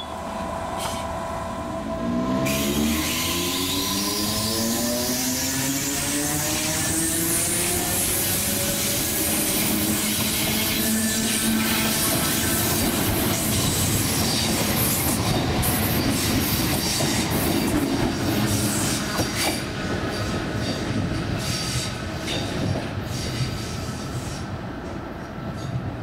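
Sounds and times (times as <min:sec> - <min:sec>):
train wheels rumbling by: 0:00.0 - 0:26.0.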